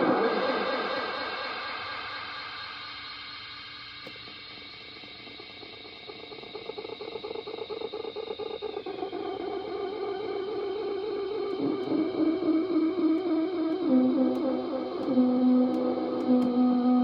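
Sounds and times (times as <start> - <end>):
feedback drone: 0.0 - 17.0.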